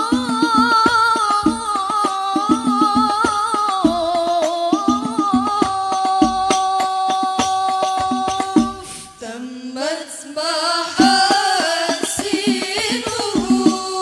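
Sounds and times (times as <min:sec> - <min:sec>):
quick hand-drum beats: 0:00.0 - 0:09.1, 0:11.0 - 0:14.0
women singing in unison: 0:00.0 - 0:14.0.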